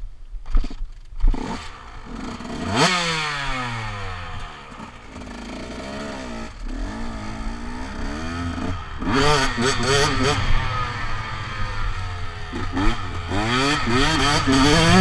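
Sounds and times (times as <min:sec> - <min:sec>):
dirt bike engine revving: 0:01.2 - 0:15.0.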